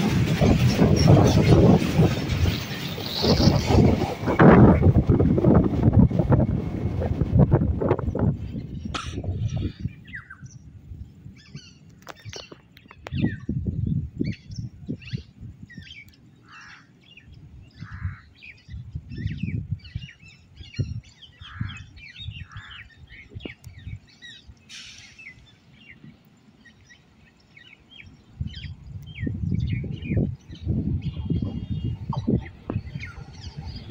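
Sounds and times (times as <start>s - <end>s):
wind buffeting microphone: 0.0s - 16.1s, 17.0s - 33.9s
birds chirping: 0.4s - 4.8s, 8.1s - 33.9s.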